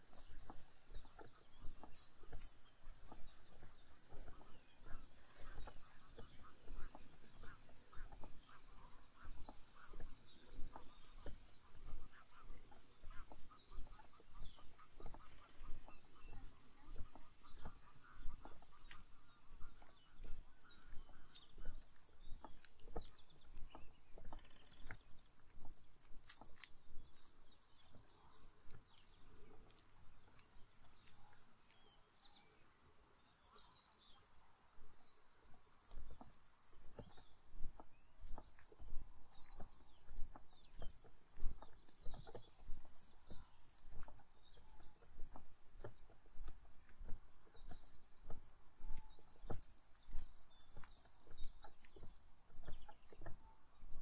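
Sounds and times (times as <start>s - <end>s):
footsteps crunching on a path: 0.0s - 32.6s, 33.4s - 54.0s
birds chirping faintly: 0.0s - 54.0s.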